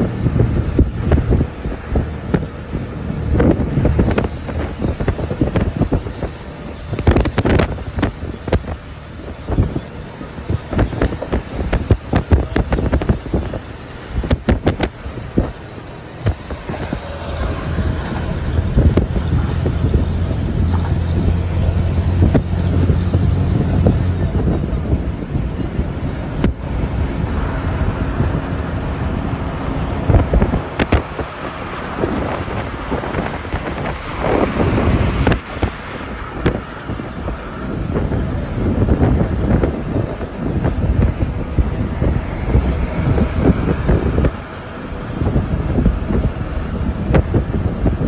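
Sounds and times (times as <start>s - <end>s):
car road noise: 0.0s - 48.0s
wind buffeting microphone: 0.0s - 48.0s.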